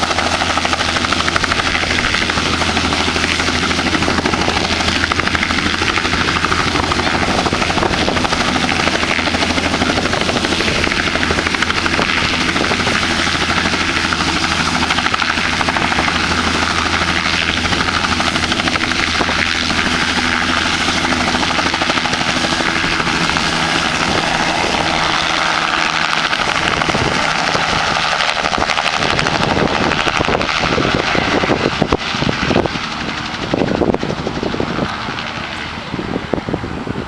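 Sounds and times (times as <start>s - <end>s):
helicopter rotor and engine: 0.0s - 37.0s
wind buffeting microphone: 0.0s - 37.0s.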